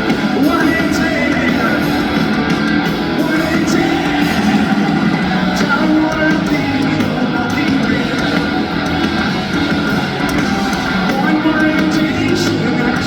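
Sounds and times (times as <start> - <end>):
distorted electric guitars strumming: 0.0 - 13.0
drums: 0.0 - 13.0.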